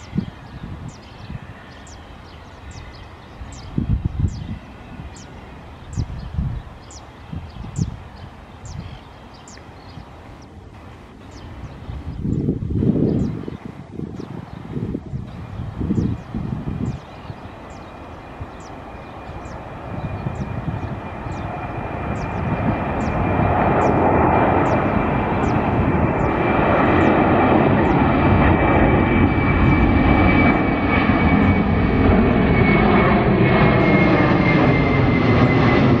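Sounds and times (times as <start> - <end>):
high jet engine whine: 0.0 - 36.0
jet engines rumbling: 0.0 - 36.0.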